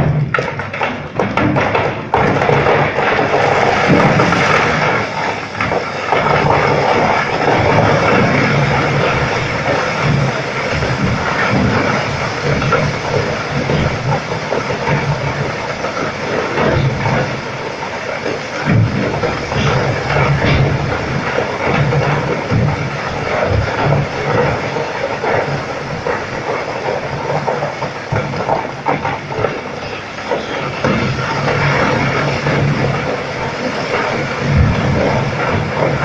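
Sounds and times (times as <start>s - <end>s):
loud steady mechanical noise: 0.0s - 36.0s.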